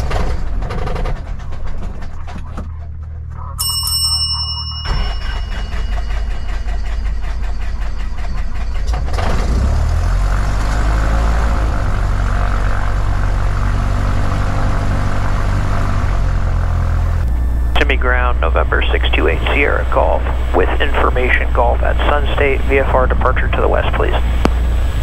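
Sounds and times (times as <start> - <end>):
small plane engine and propeller: 0.0 - 25.0.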